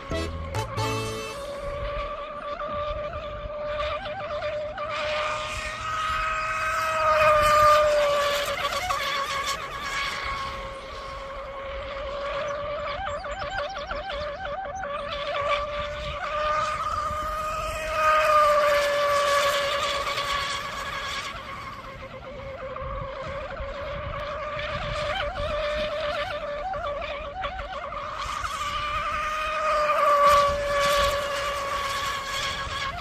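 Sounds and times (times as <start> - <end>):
rc boat motor whine: 0.0 - 33.0.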